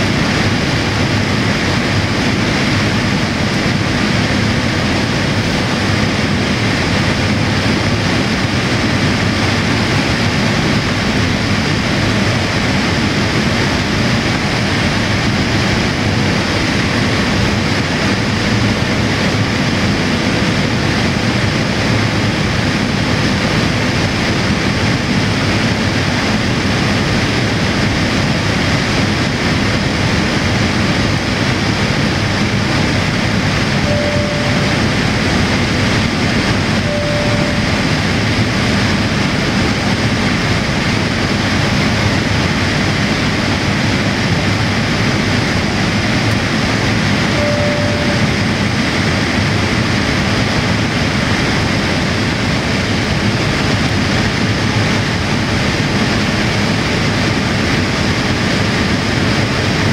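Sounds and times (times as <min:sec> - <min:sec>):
airliner cabin engine rush: 0:00.0 - 0:59.9.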